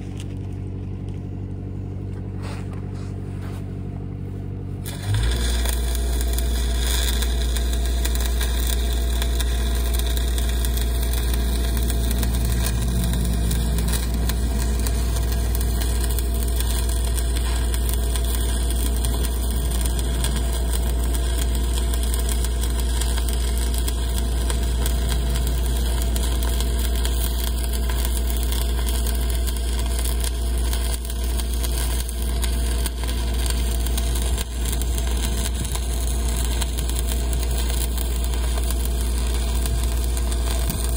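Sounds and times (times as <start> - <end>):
low engine drone: 0.0 - 40.9
welding arc crackling: 4.8 - 40.9.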